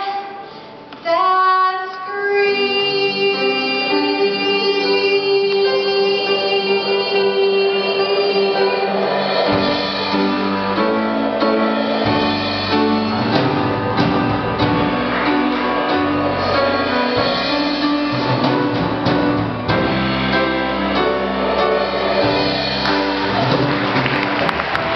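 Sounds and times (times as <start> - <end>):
instrumental band music: 0.0 - 24.9.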